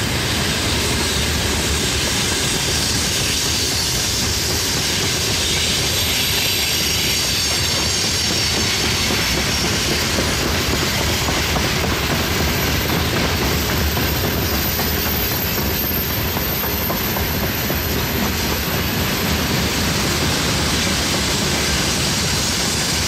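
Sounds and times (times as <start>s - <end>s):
train wheels rumbling on rails: 0.0s - 23.0s
faint high wheel squeal: 0.6s - 23.0s.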